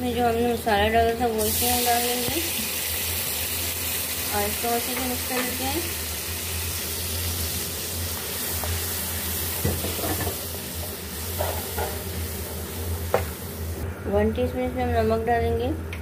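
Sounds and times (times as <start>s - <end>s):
spice paste sizzling in oil: 0.0s - 13.8s.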